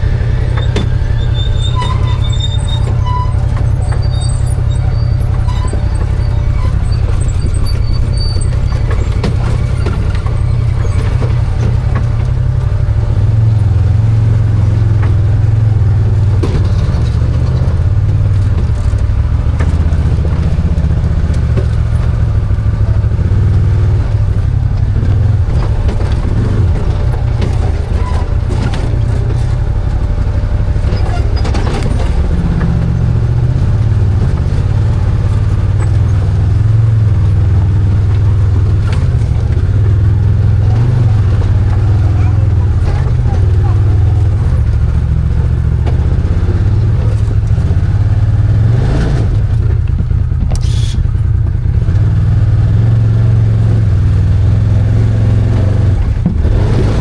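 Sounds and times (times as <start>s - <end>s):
knocks and rattles: 0.0s - 57.0s
vehicle engine running: 0.0s - 57.0s.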